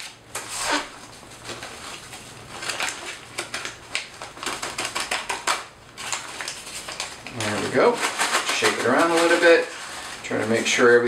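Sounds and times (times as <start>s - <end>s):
plastic bag and packet crinkling: 0.0s - 11.0s.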